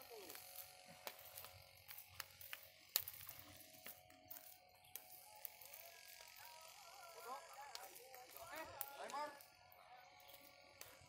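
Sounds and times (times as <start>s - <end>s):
smouldering wood crackling and popping: 0.0s - 11.0s.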